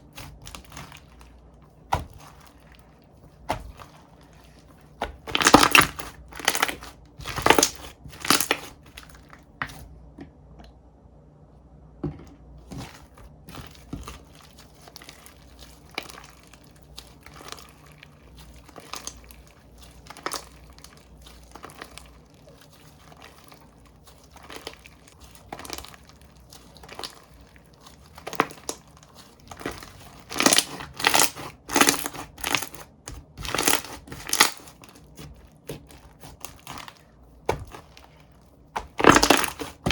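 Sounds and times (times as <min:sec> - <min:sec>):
hands squishing slime: 0:00.0 - 0:09.9, 0:12.6 - 0:39.9.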